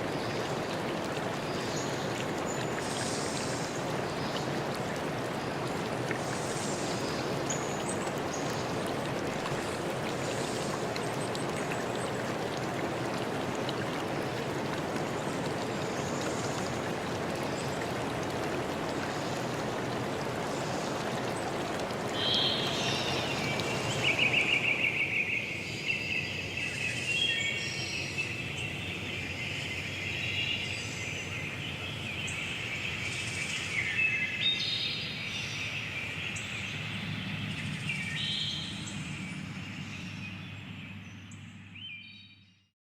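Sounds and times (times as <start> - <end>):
stream water rushing: 0.0 - 40.2.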